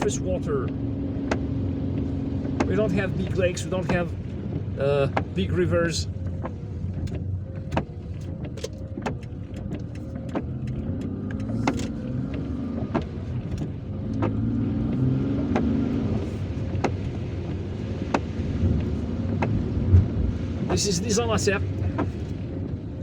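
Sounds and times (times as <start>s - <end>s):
car engine and road noise: 0.0s - 23.0s
raindrops ticking on car: 0.0s - 23.0s.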